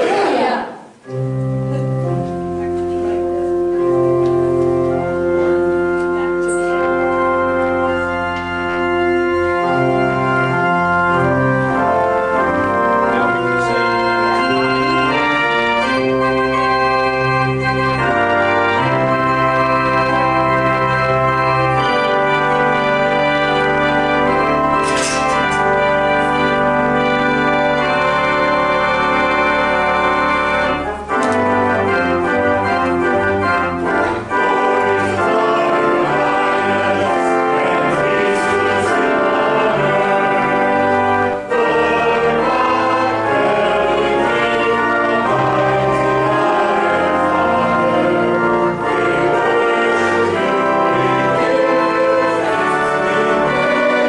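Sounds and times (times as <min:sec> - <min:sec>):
church organ chords: 0:00.9 - 0:54.0.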